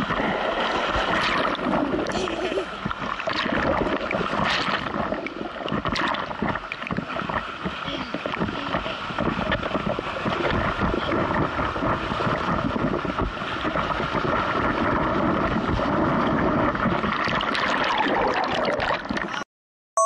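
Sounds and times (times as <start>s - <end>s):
wind buffeting microphone: 0.0s - 18.2s
sea water rushing and splashing: 0.0s - 19.4s.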